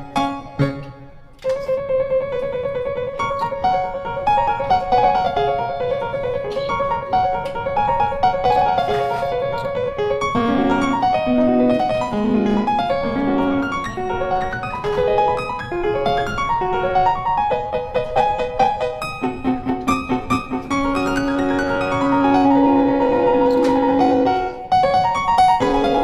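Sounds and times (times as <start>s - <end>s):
piano background music: 0.0s - 26.0s.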